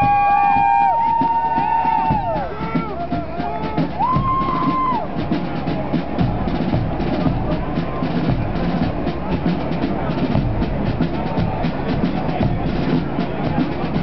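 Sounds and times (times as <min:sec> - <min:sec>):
bass drum beats: 0:00.0 - 0:14.0
snare drum rapid strokes: 0:00.0 - 0:14.0.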